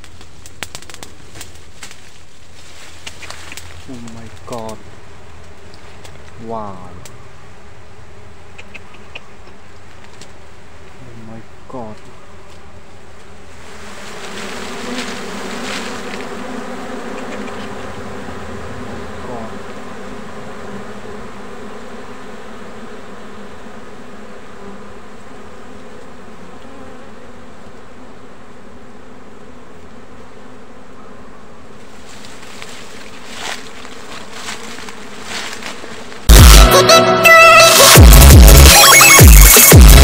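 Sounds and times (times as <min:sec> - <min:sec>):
honey bees buzzing: 0:00.0 - 0:40.0.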